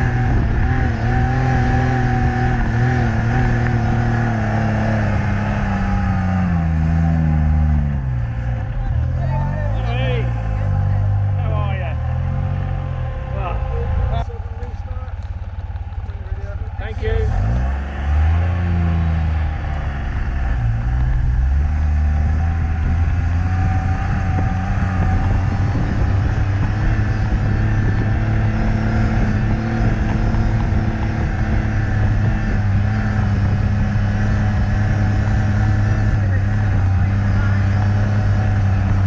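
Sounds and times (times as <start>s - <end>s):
car engine under load: 0.0s - 39.0s.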